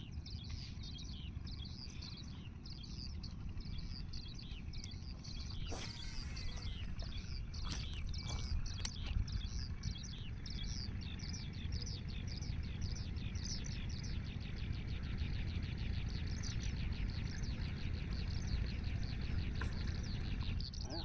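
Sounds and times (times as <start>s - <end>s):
low steady rumble: 0.0s - 21.0s
small birds chirping: 0.0s - 21.0s.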